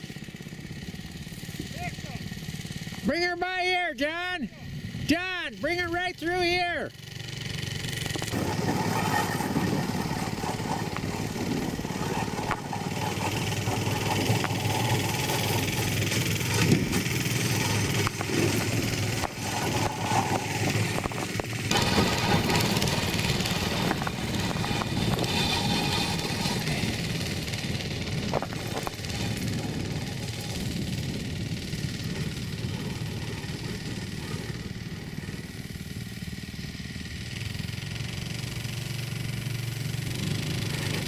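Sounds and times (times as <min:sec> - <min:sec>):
small engine running: 0:00.0 - 0:41.0.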